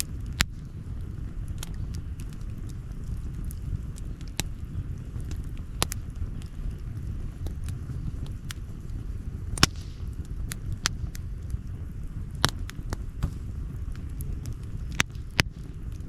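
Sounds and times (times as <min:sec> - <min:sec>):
campfire crackling and popping: 0:00.0 - 0:16.0
low steady rumble: 0:00.0 - 0:16.0.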